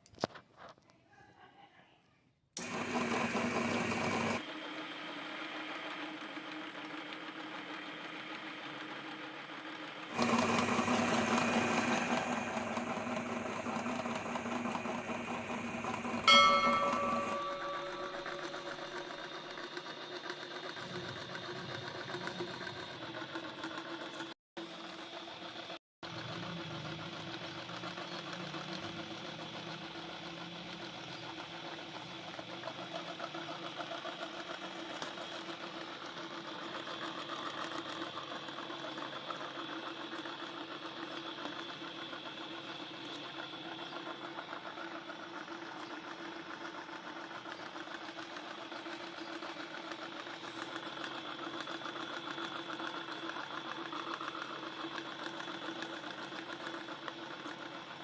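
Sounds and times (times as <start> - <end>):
meat grinder motor humming: 2.6 - 58.0.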